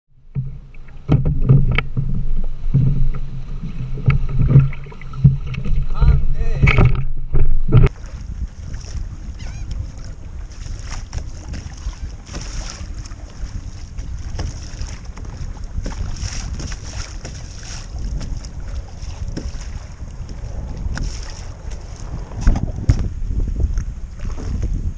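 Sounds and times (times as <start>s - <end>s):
waves lapping against kayak: 0.2s - 24.9s
wind buffeting microphone: 0.4s - 24.9s.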